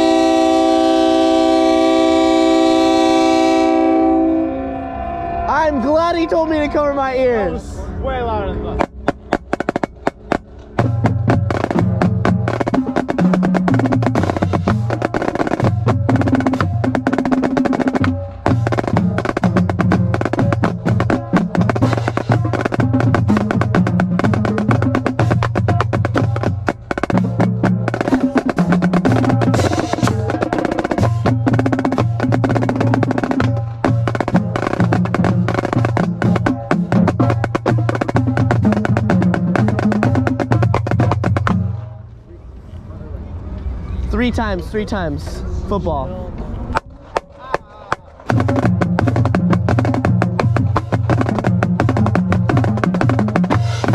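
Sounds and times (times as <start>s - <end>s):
marching snare drum rolls: 0.0s - 4.2s, 8.8s - 41.9s, 46.7s - 53.9s.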